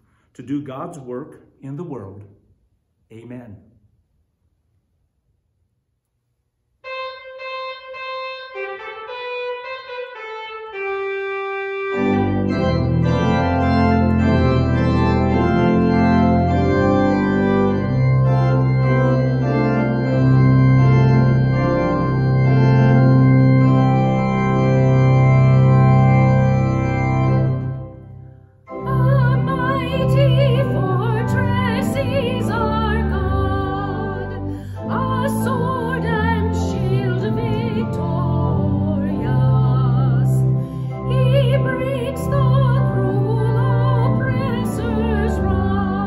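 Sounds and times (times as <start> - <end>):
organ playing: 6.9 - 46.0.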